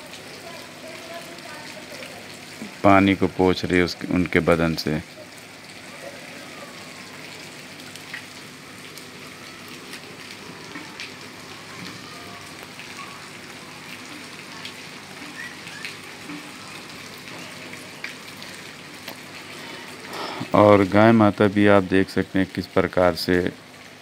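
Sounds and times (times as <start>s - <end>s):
raindrops clicking on surfaces: 0.0s - 24.0s
steady rain falling: 0.0s - 24.0s.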